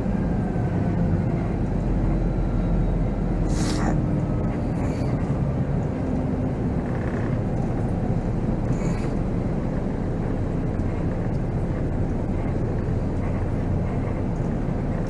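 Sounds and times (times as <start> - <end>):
diesel coach engine: 0.0 - 15.0
road noise: 0.0 - 15.0.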